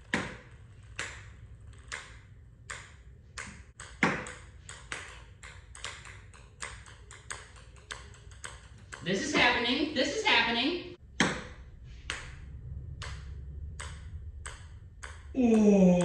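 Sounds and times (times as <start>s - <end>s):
ping pong ball bouncing: 0.0s - 9.6s, 11.0s - 16.0s.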